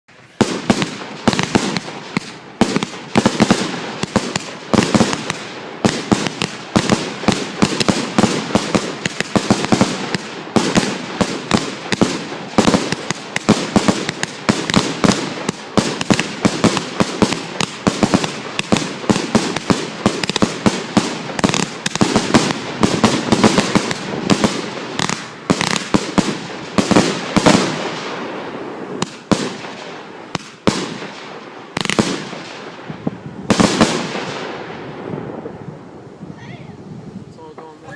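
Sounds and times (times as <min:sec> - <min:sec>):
firework bangs: 0:00.1 - 0:36.2.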